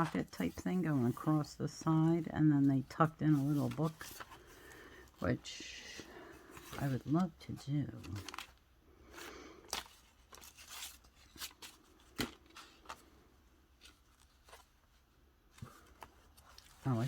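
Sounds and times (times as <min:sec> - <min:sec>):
paper rustling: 0:00.0 - 0:17.0.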